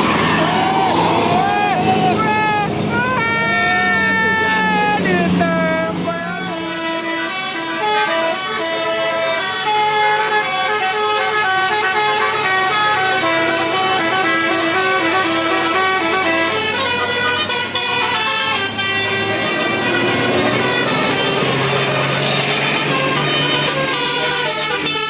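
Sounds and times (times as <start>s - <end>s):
multi-tone air horn tune: 0.0s - 25.0s.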